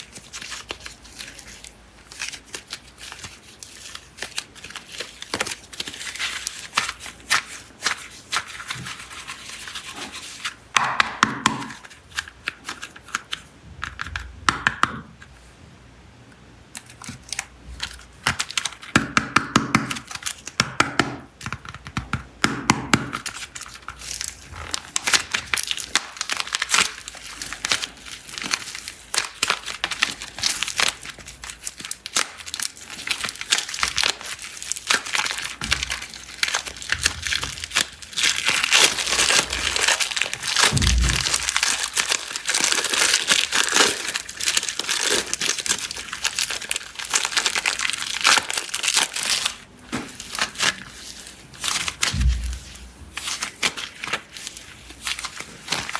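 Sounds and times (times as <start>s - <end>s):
plastic packaging crinkling and tearing: 0.0s - 10.7s, 16.7s - 19.0s, 19.9s - 20.6s, 23.1s - 55.9s.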